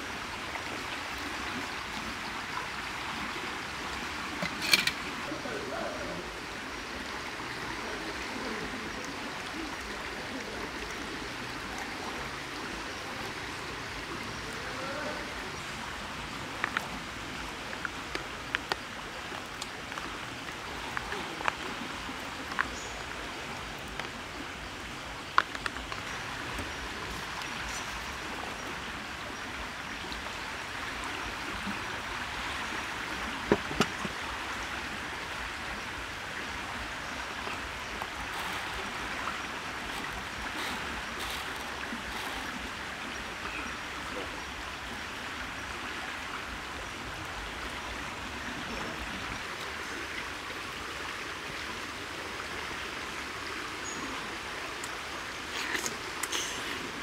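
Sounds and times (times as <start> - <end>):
rushing like running water: 0.0 - 57.0.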